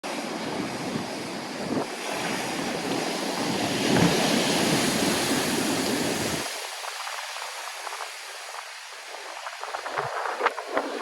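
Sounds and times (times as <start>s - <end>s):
storm waves breaking: 0.1s - 11.0s.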